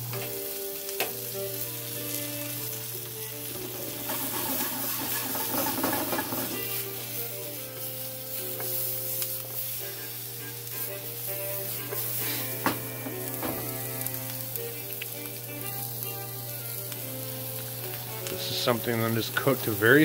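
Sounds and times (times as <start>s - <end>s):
vegetables sizzling in a skillet: 0.0s - 20.0s.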